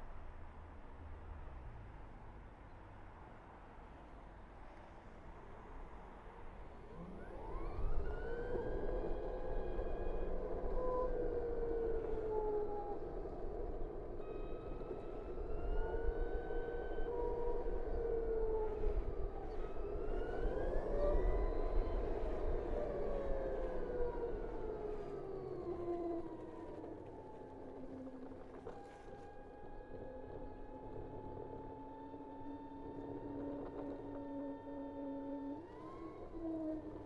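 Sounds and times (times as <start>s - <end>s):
road rumble: 0.0s - 37.0s
wind: 0.0s - 37.0s.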